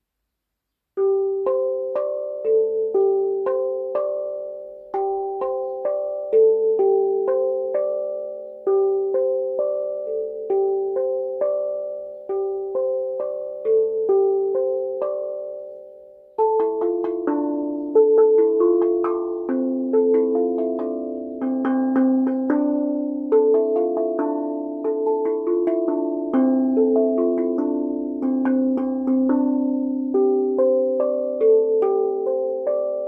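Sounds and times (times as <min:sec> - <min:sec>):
steel tongue drum notes: 0:01.0 - 0:33.0.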